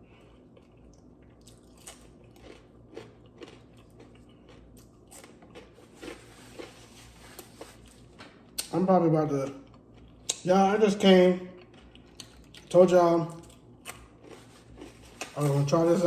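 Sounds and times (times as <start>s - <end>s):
chewing crunchy food: 0.0s - 8.8s, 9.4s - 10.8s, 11.4s - 16.0s.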